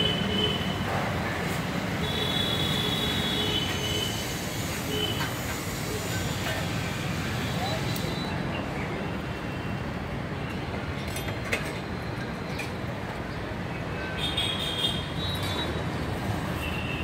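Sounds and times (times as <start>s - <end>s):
city street rumble: 0.0s - 17.0s.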